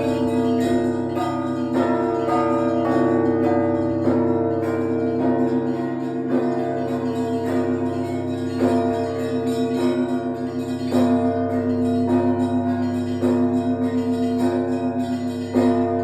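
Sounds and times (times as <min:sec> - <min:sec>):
church bell strikes: 0:00.0 - 0:16.0
low bell hum: 0:00.0 - 0:16.0.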